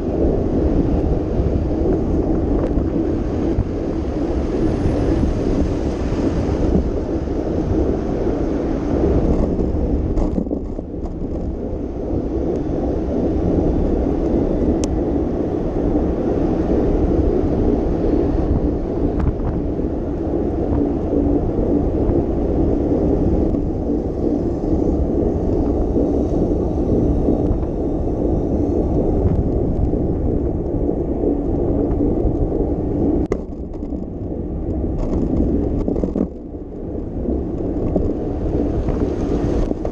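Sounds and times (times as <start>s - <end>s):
bicycle road noise: 0.0s - 39.9s
wind on microphone: 0.0s - 39.9s.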